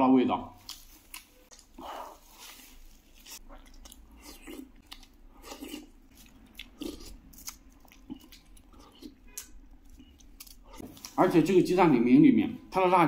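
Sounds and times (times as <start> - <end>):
crispy food crunching: 0.6 - 11.5.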